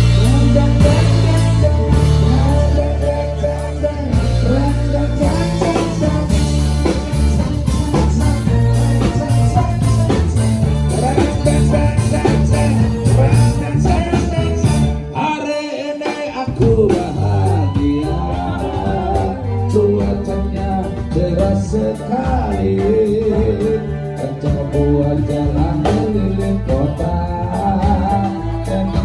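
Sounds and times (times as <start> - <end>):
band music with drums and bass: 0.0 - 29.0.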